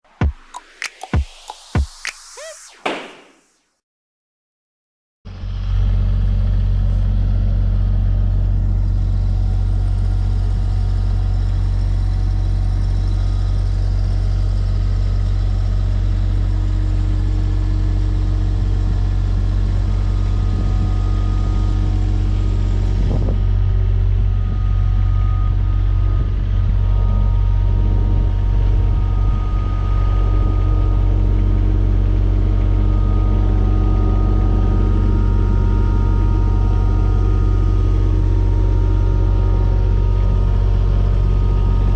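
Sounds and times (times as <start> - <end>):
diesel engine running: 5.3 - 41.9.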